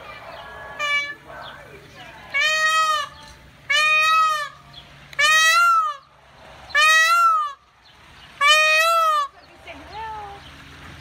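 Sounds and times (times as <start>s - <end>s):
peacock calling: 0.0s - 10.6s.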